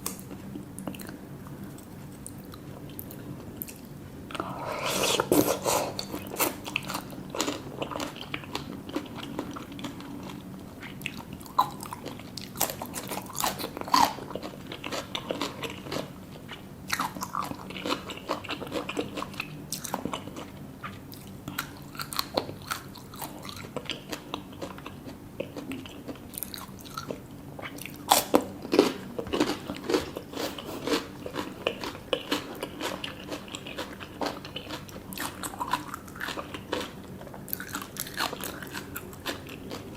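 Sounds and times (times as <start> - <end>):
people chewing and crunching food: 0.0 - 39.9.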